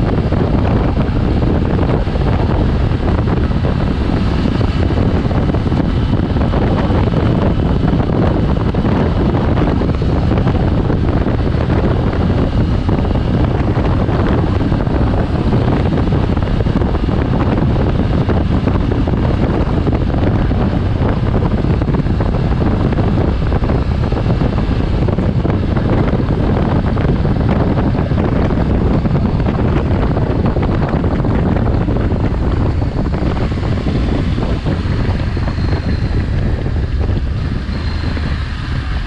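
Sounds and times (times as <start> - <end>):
motorcycle running noise: 0.0 - 39.0
wind buffeting microphone: 0.0 - 39.0.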